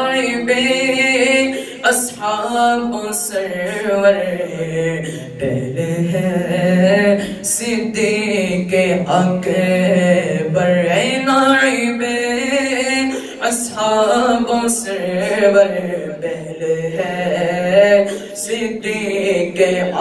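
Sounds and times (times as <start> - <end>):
young man singing unaccompanied: 0.0 - 20.0.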